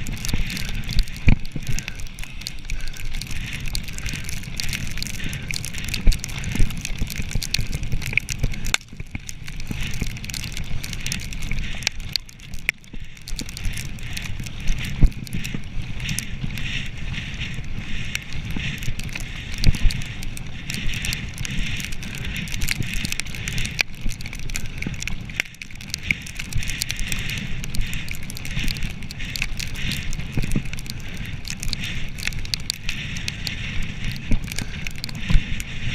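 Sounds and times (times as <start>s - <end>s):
bike tyres rumbling on dirt: 0.0s - 35.9s.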